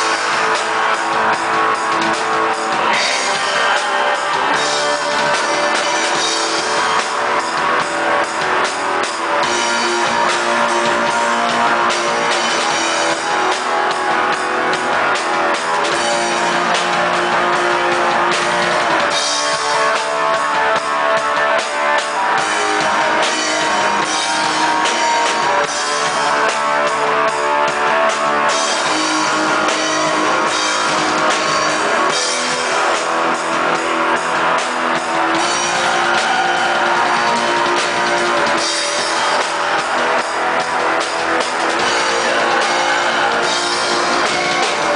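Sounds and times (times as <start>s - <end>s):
dense drumming on drum kit: 0.0s - 44.9s
distorted electric guitars: 0.0s - 44.9s.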